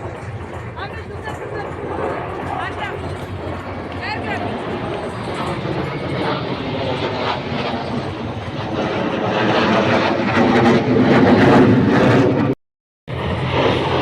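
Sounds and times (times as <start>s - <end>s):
military aircraft flying past: 0.0s - 14.0s.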